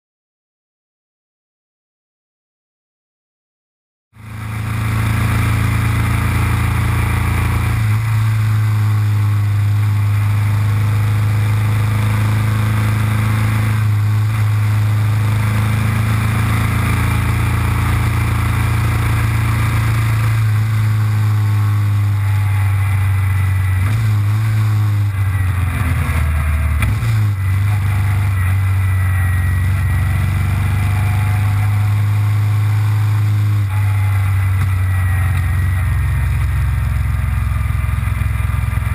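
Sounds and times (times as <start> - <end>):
motorcycle engine running: 4.2 - 38.9.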